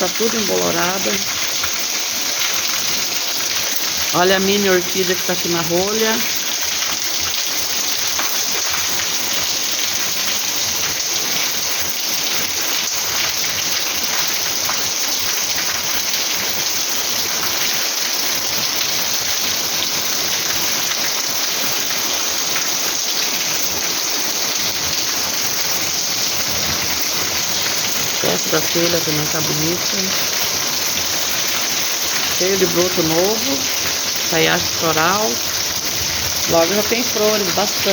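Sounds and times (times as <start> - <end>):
heavy rain on hard surfaces: 0.0 - 37.9.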